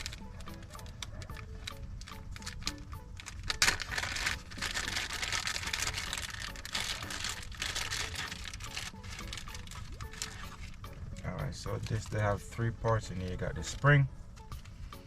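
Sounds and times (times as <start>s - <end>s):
plastic parts crackling and rustling: 0.0s - 13.9s.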